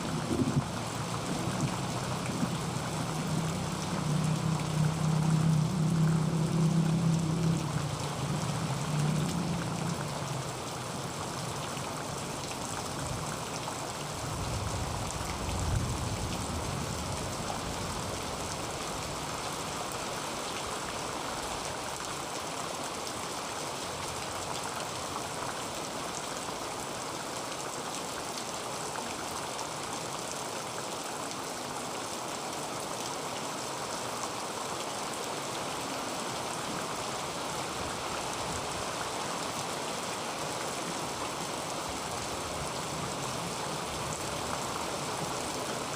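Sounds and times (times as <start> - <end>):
heavy rain on a tin roof: 0.0 - 45.9.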